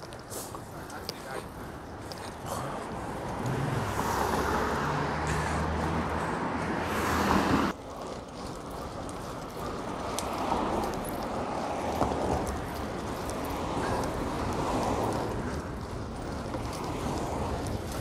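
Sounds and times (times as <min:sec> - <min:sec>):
wind noise while cycling: 0:00.0 - 0:18.0.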